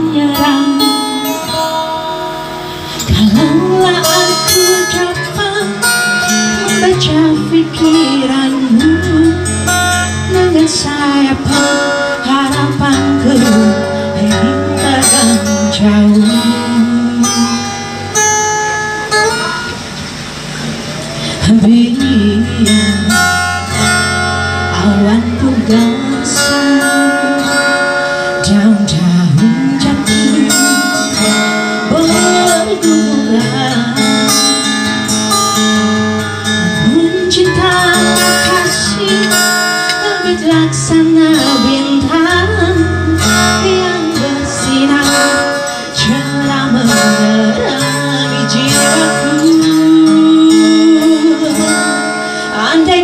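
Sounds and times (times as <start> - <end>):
woman singing a pop ballad: 0.0 - 17.8, 21.2 - 53.0
strummed acoustic guitar: 0.0 - 53.0.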